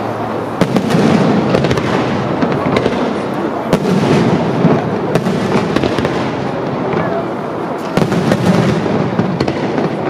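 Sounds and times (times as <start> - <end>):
fireworks rumbling and crackling: 0.0 - 10.0
sharp firework bangs: 0.0 - 10.0.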